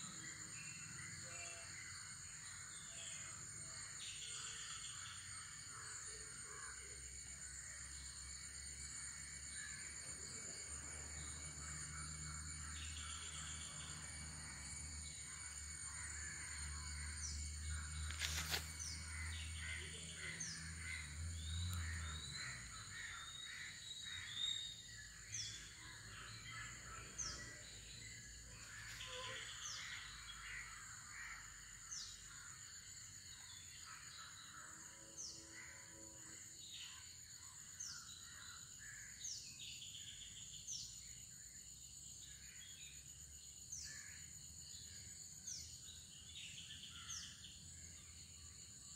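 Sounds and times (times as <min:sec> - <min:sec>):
insect drone: 0:00.0 - 0:48.9.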